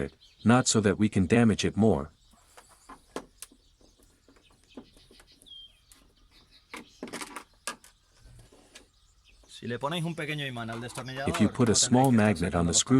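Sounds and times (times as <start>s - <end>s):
bird chirp: 0.0s - 12.9s.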